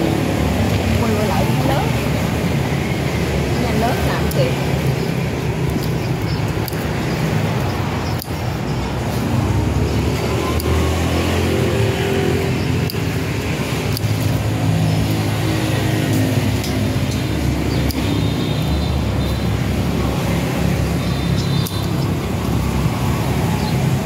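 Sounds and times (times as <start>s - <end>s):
scissors snipping stems: 0.0s - 24.0s.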